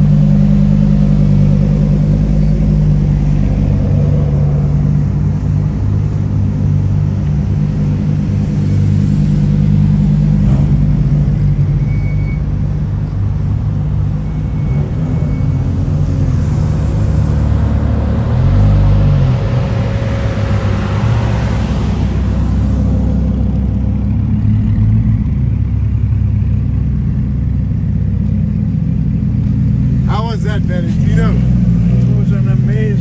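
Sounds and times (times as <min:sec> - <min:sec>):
car engines rumbling past: 0:00.0 - 0:33.0.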